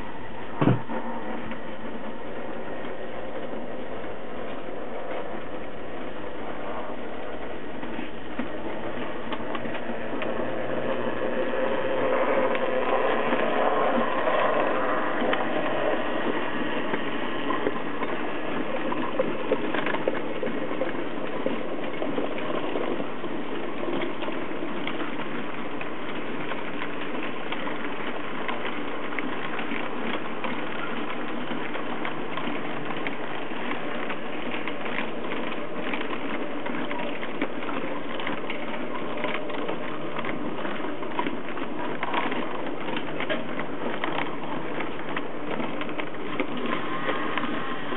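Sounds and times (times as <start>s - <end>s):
model locomotive motor hum: 0.0s - 47.9s
model train wheels clicking on rails: 0.0s - 47.9s.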